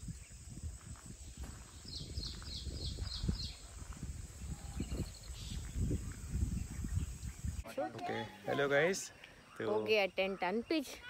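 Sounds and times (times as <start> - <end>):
bird chirping: 1.2 - 11.0.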